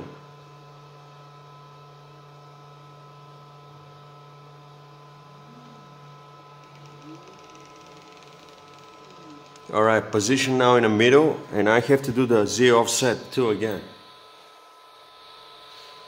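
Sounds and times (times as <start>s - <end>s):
electrical hum with faint tones: 0.0s - 16.0s
stepper motor whines: 3.0s - 16.0s.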